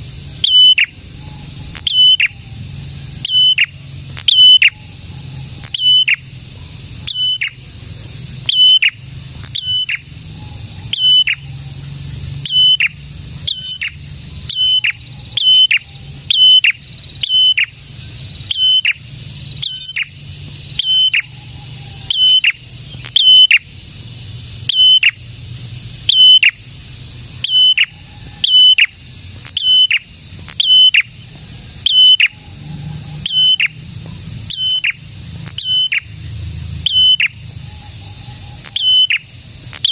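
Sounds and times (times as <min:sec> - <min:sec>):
bird calling sharp notes: 0:00.0 - 0:39.9
steady low hum: 0:00.0 - 0:39.9.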